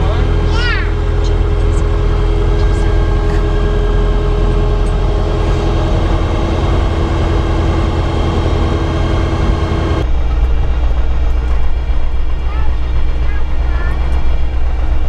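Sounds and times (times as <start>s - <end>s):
aircraft engine and propeller rumble: 0.0s - 15.0s.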